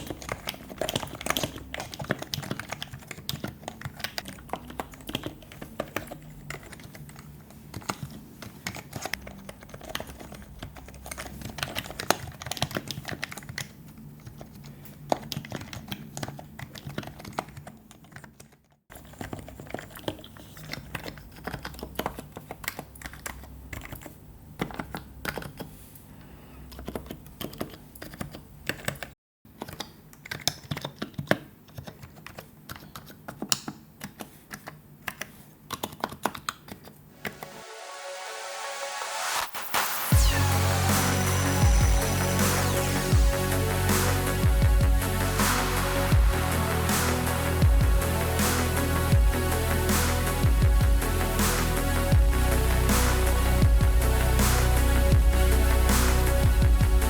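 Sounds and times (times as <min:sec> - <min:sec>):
keyboard typing: 0:00.0 - 0:25.8, 0:26.7 - 0:57.0.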